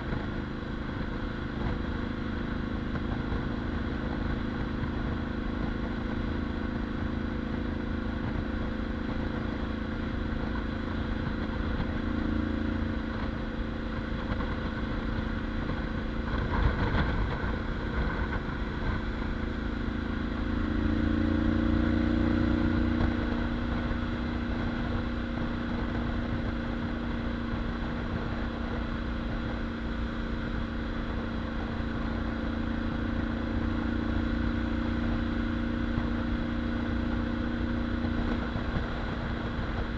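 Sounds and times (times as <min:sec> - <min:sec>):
motorcycle idling: 0:00.0 - 0:39.9.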